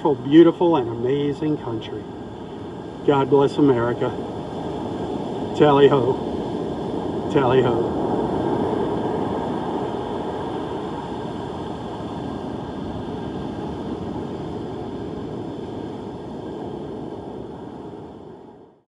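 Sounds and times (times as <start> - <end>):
surf on beach: 0.0 - 18.8
wind: 0.0 - 18.8.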